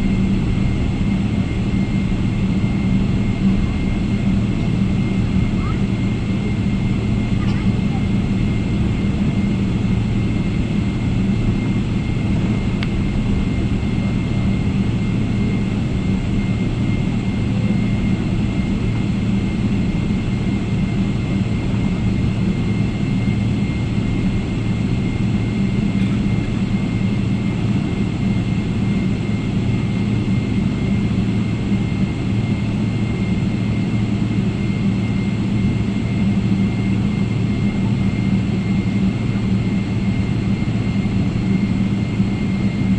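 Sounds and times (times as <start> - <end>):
jet engine and airflow rumble: 0.0 - 42.9.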